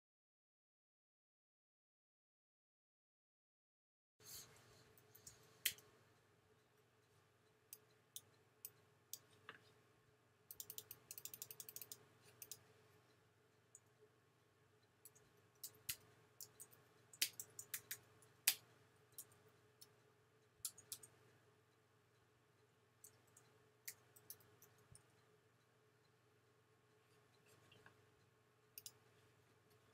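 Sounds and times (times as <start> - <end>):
faint steady hum: 4.2 - 29.9.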